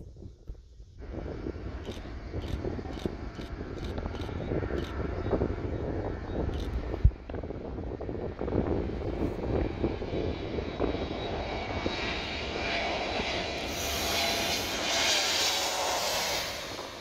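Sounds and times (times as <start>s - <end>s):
airplane engine overhead: 0.0s - 17.0s
wind rumble on microphone: 0.0s - 17.0s.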